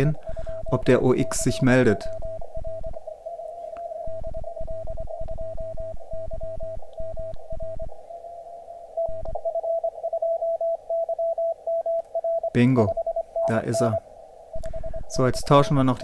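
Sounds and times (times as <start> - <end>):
morse code tone keyed: 0.0 - 16.0
radio receiver noise: 0.0 - 16.0.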